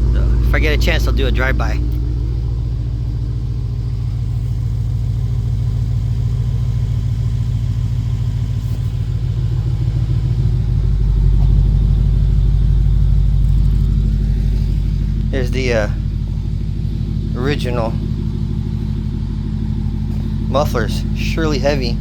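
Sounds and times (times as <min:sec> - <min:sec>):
car engine idling rumble: 0:00.0 - 0:22.0.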